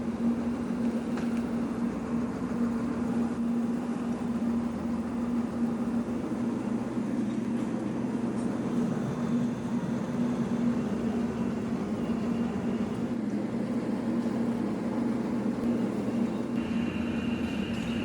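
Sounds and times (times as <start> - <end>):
constant low hum: 0.0 - 18.0
industrial machinery rumbling: 0.0 - 18.0.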